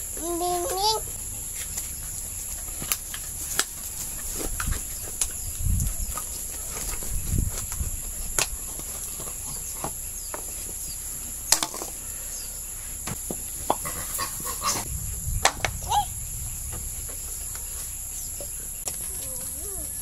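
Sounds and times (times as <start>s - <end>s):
bird chirp: 0.0s - 20.0s
high insect drone: 0.0s - 20.0s.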